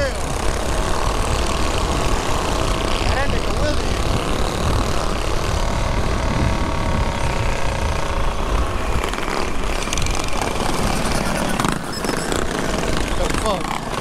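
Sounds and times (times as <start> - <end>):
mini bike engine running: 0.0 - 14.0
wind rumble on microphone: 0.0 - 14.0.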